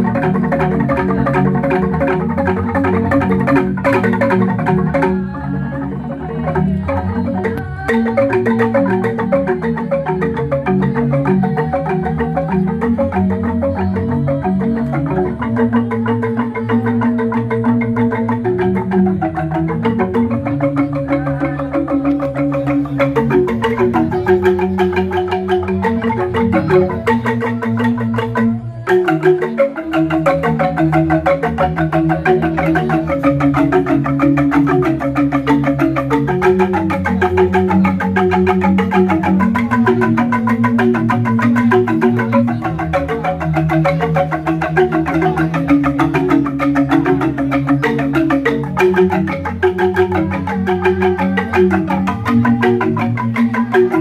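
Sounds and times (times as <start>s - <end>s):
bamboo xylophones playing: 0.0s - 54.0s.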